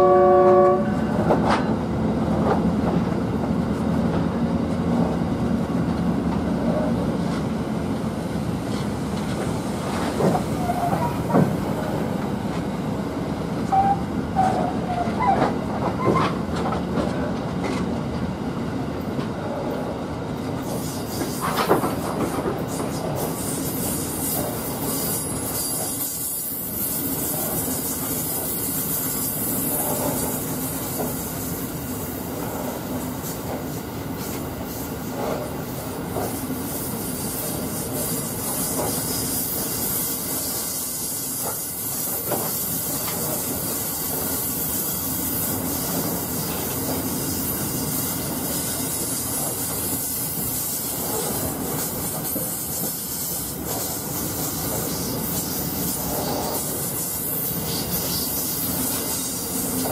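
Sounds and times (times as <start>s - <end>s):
train wagons rolling on rails: 0.0s - 59.9s.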